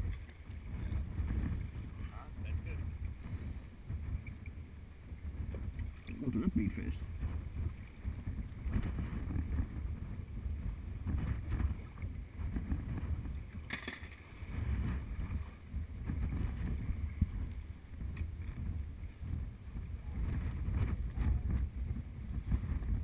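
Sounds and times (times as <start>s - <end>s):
water slapping boat hull: 0.0s - 23.0s
wind buffeting microphone: 0.0s - 23.0s.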